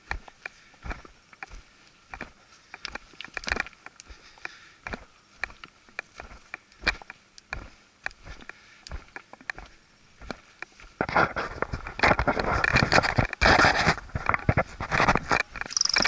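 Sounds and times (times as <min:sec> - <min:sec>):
footsteps crunching on gravel: 0:00.0 - 0:16.0.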